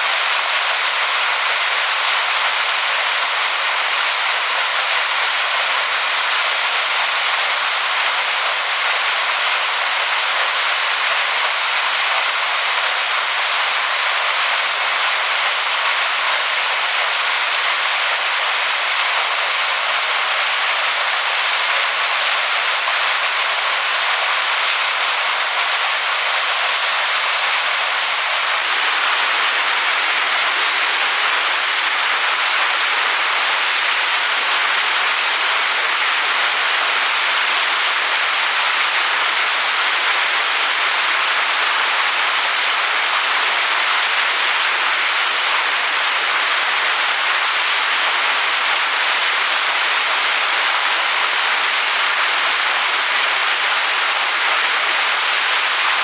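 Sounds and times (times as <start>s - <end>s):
waterfall onto rocks: 0.0s - 56.0s.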